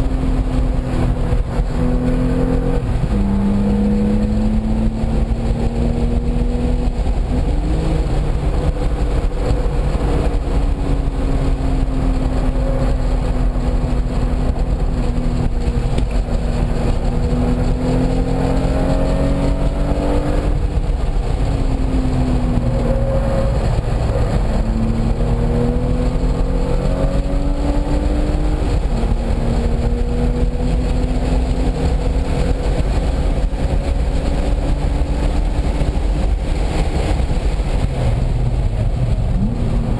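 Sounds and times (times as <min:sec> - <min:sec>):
car engine accelerating hard: 0:00.0 - 0:39.9
wind and road noise: 0:00.0 - 0:39.9.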